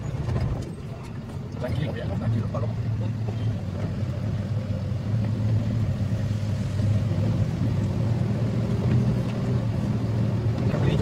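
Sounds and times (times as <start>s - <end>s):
truck engine drone: 0.0s - 11.0s.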